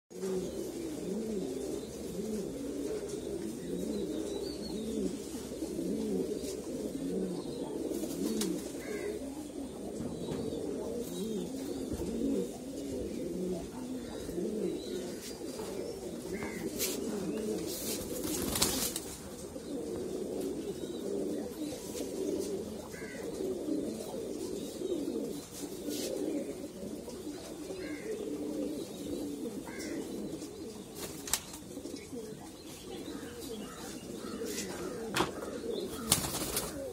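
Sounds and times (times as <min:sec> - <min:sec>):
pigeons cooing: 0:00.1 - 0:36.9.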